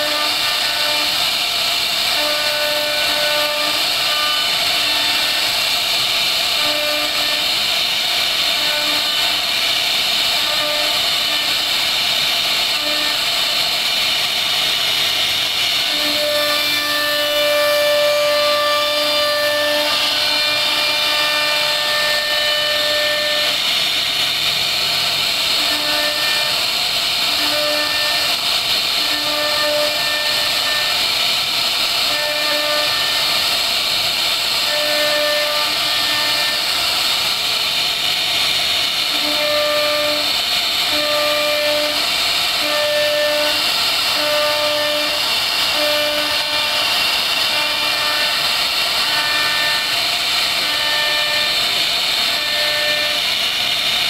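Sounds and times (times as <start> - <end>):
router cutting wood: 0.0 - 54.0.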